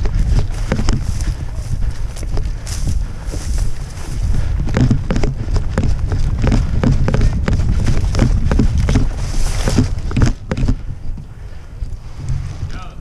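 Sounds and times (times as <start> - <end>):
running footsteps through dry grass: 0.0 - 13.0
rustling: 0.0 - 13.0
steady low rumble: 0.0 - 13.0.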